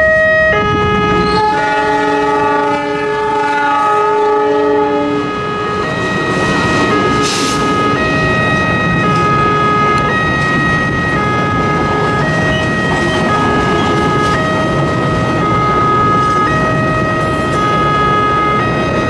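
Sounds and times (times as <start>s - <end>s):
level crossing alarm: 0.0s - 19.0s
train coaches rumbling past: 0.0s - 19.0s.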